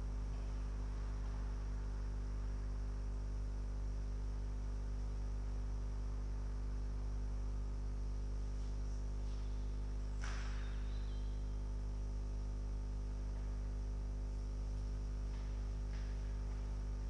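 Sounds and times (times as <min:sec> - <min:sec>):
mains hum with faint hiss: 0:00.0 - 0:17.0.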